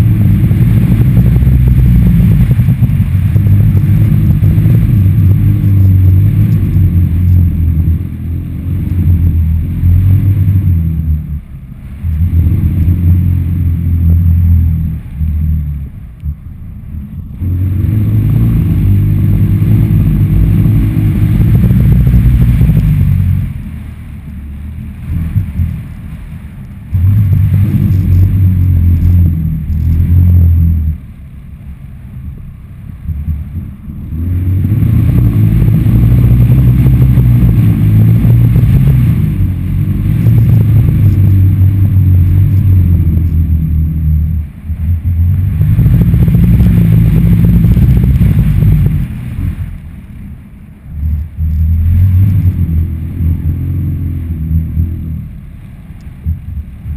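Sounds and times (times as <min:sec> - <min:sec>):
wind buffeting microphone: 0:00.0 - 0:31.0, 0:32.3 - 0:56.9.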